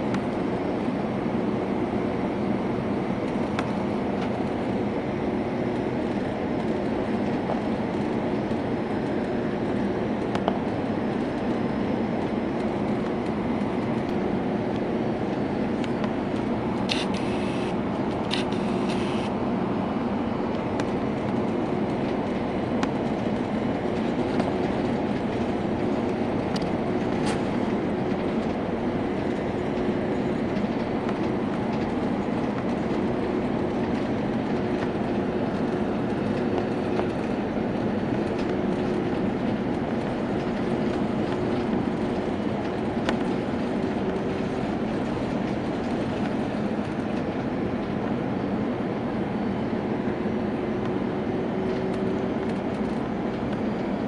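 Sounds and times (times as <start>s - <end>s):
faint held hum: 0.0s - 54.0s
jet engines and airflow rush: 0.0s - 54.0s.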